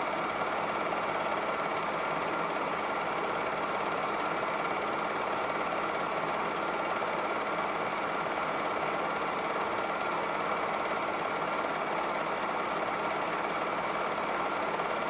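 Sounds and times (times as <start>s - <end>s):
film projector clattering: 0.0s - 15.0s.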